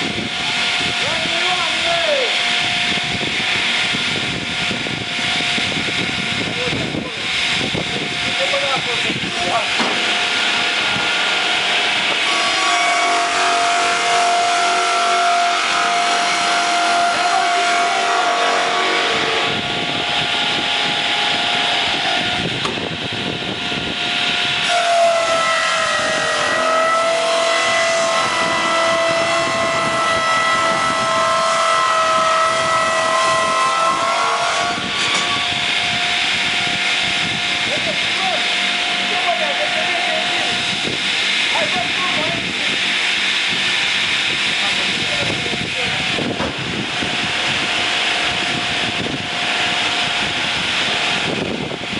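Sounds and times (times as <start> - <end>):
circular saw blade sawing log: 7.0 - 22.4, 24.2 - 51.6.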